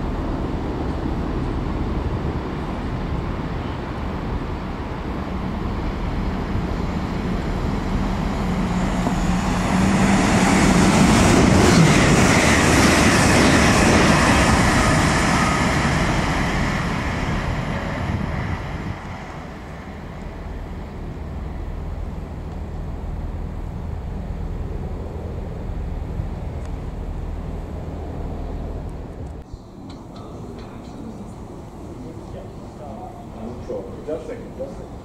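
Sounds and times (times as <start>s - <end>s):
train passing with rushing noise: 0.0s - 35.0s.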